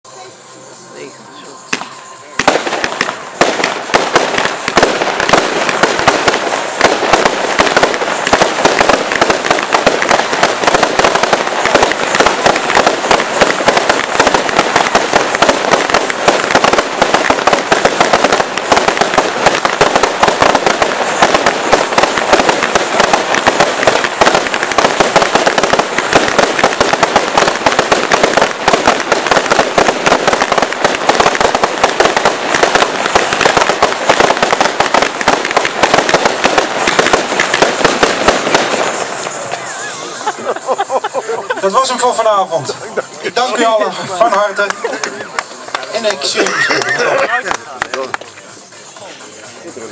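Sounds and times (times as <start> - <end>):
firework cake firing rapid bangs: 1.5 - 49.9.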